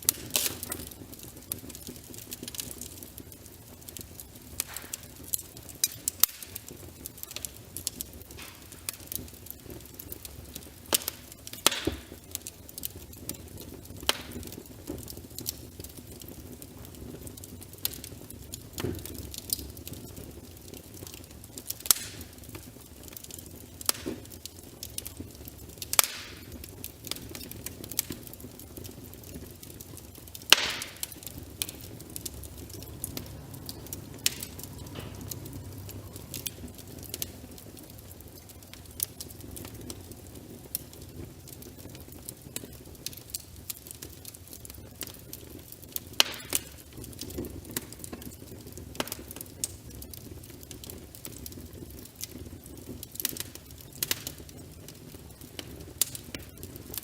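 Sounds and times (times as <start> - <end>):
low rumble of burning: 0.0 - 57.0
wood fire crackling: 0.0 - 57.0.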